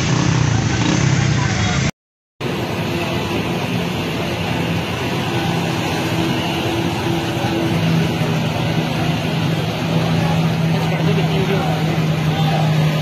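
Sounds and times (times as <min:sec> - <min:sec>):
low engine hum: 0:02.4 - 0:13.0
floodwater rushing: 0:02.5 - 0:13.0.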